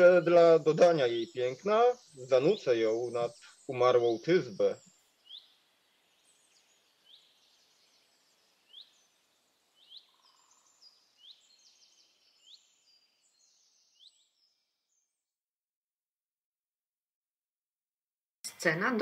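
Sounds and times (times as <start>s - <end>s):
birds chirping and twittering: 0.0s - 15.4s.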